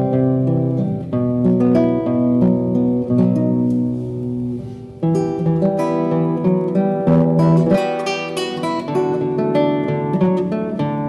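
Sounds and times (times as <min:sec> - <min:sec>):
fingerpicked classical guitar: 0:00.0 - 0:11.0.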